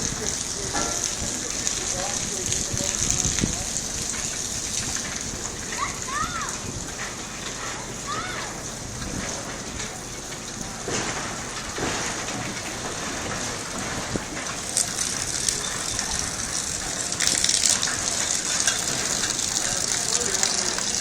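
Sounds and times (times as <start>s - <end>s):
water rushing and splashing: 0.0s - 21.0s.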